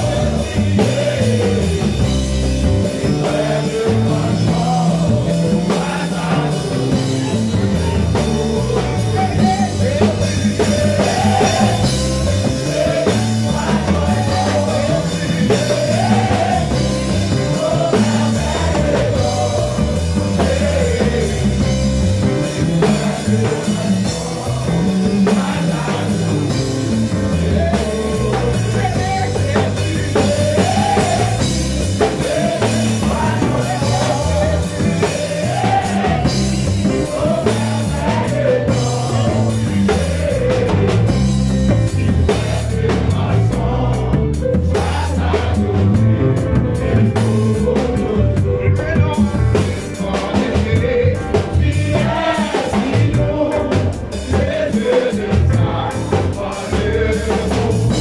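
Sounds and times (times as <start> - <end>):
drum kit with cymbals: 0.0 - 58.0
electric bass: 0.0 - 58.0
men singing: 0.0 - 58.0.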